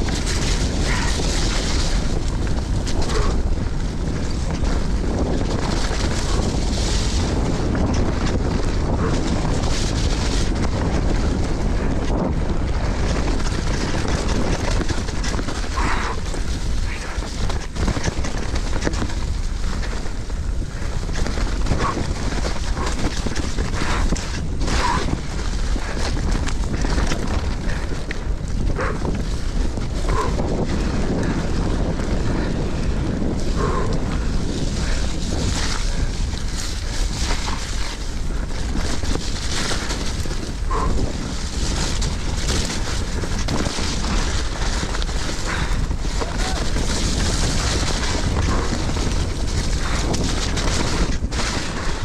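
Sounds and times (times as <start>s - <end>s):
bike tyres on dirt trail: 0.0s - 52.0s
wind rumble on microphone: 0.0s - 52.0s.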